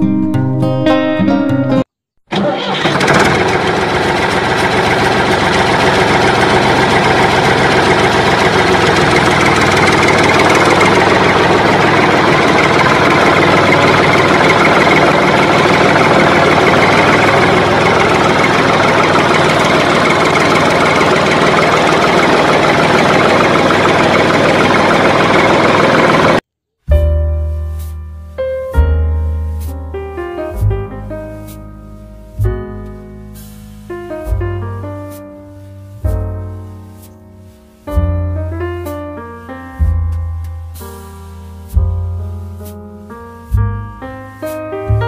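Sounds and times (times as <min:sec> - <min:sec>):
tractor engine running: 0:02.2 - 0:26.4, 0:28.8 - 0:45.0.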